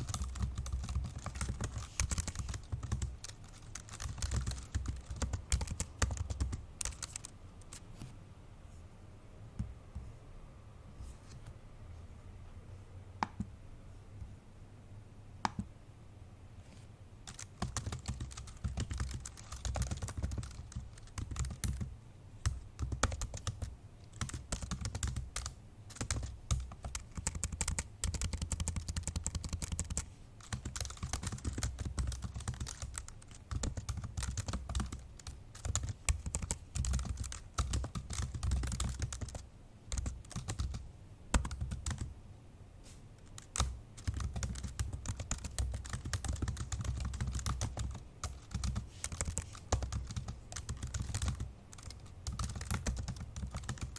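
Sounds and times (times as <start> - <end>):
fast typing on laptop keyboard: 0.0 - 7.8, 17.2 - 42.1, 43.2 - 53.9.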